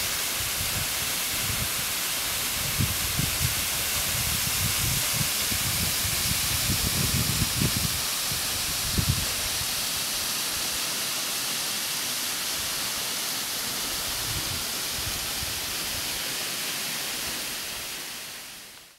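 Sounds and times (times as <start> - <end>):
waterfall hissing: 0.0 - 18.9.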